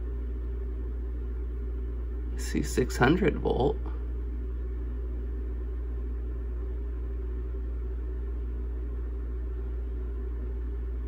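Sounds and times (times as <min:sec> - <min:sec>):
low hum with faint hiss: 0:00.0 - 0:11.0.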